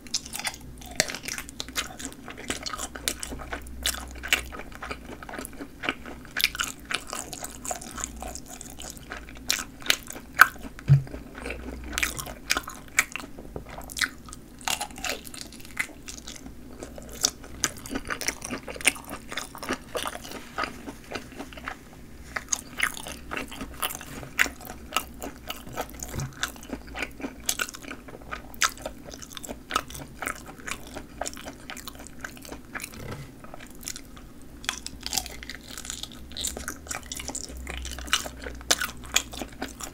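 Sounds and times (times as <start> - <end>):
person chewing crisp sausages: 0.0 - 39.9.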